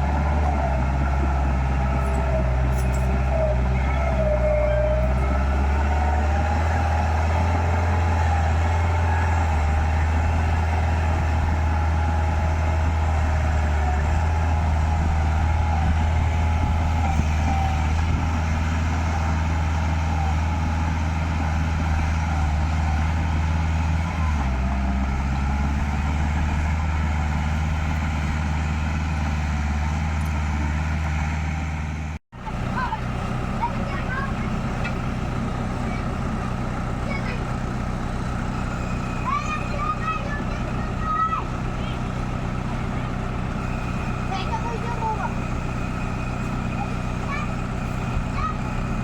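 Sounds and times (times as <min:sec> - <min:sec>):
heavy diesel engine droning: 0:00.0 - 0:49.0.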